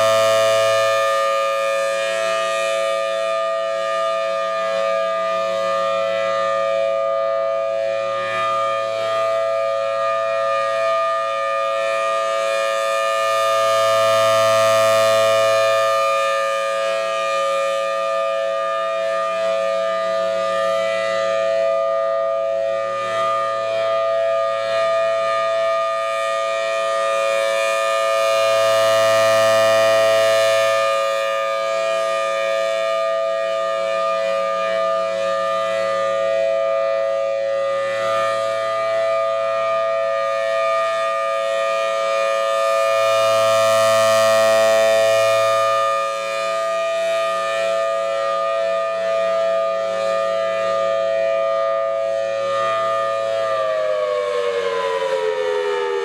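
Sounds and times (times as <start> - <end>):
tornado siren steady chord: 0.0 - 56.0.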